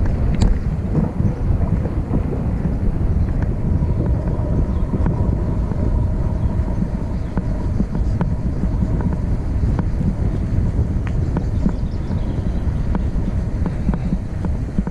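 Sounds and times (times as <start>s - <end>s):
faint steady whine: 0.0s - 14.9s
vehicle engine rumble: 0.0s - 14.9s.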